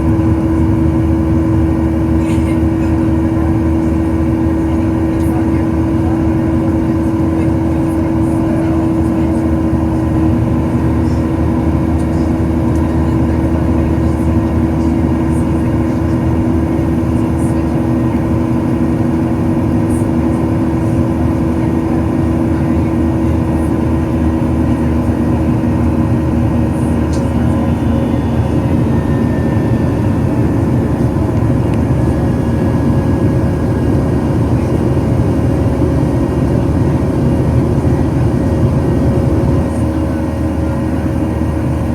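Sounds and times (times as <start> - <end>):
jet engine roar in cabin: 0.0 - 41.9.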